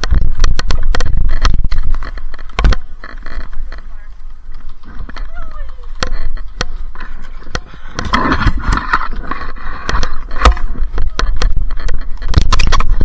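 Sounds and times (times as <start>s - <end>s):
scraping: 0.0s - 13.0s
sharp clicks and knocks: 0.0s - 13.0s.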